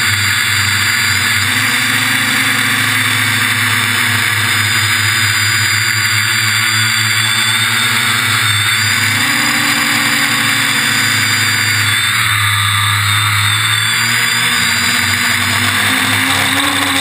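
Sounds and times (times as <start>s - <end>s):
quadcopter motors buzzing: 0.0s - 17.0s.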